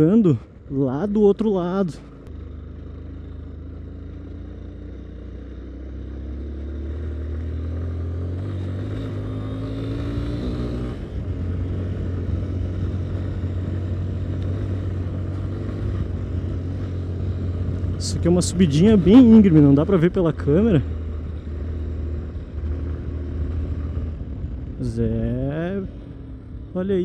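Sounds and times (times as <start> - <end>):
gear change: 0.0 - 27.0
motorcycle engine climbing hill: 0.0 - 27.0.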